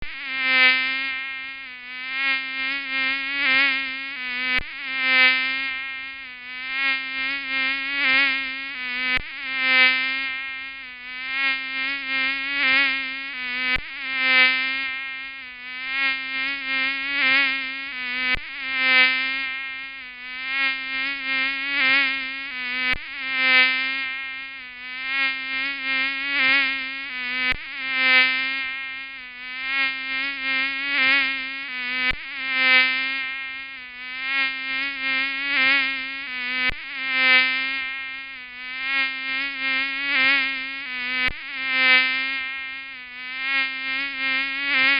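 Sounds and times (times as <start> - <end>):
mosquito wing whine: 0.0 - 44.9.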